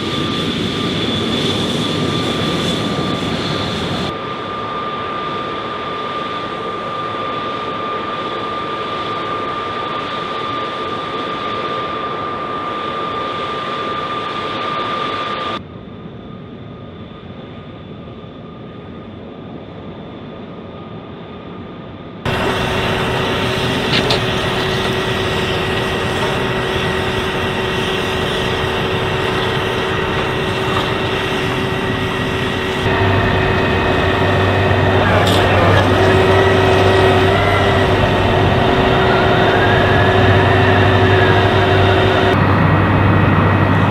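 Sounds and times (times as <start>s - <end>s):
jet engine whine: 0.0s - 43.9s.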